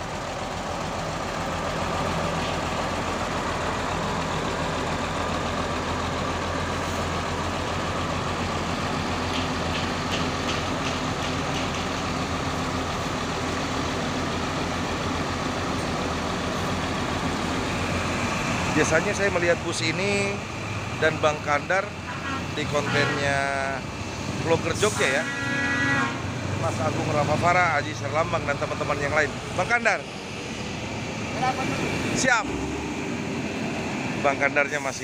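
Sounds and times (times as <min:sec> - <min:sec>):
diesel bus engine idling: 0:00.0 - 0:35.0.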